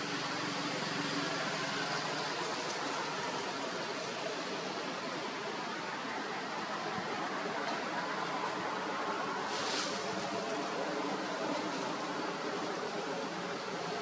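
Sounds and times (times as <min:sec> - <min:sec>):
outdoor rushing hiss: 0:00.0 - 0:14.0.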